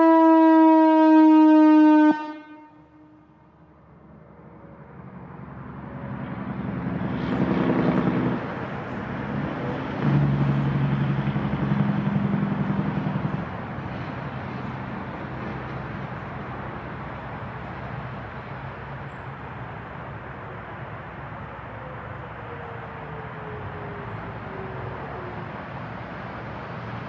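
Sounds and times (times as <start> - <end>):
vehicle engines and tyre noise: 2.1 - 27.0.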